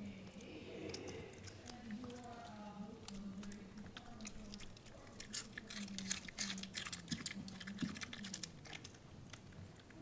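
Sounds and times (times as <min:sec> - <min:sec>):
dog crunching cabbage: 0:00.0 - 0:10.0.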